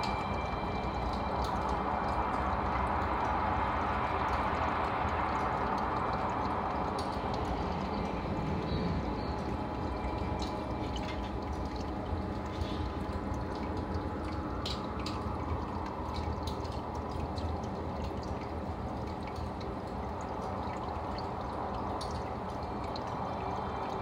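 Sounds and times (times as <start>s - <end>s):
drip-like ticks: 0.0s - 24.0s
pump hum: 0.0s - 24.0s
water trickling and bubbling: 0.0s - 24.0s.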